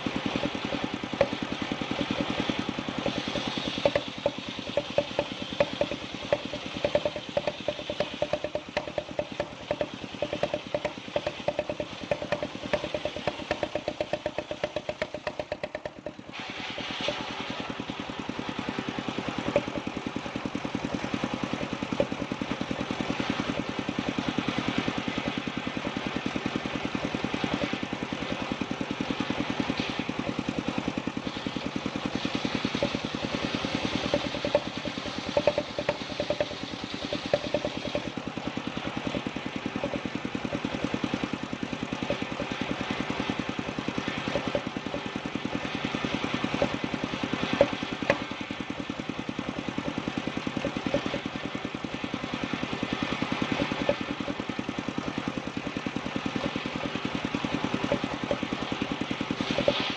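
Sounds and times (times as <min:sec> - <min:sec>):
sawing machine engine running: 0:00.0 - 0:59.9.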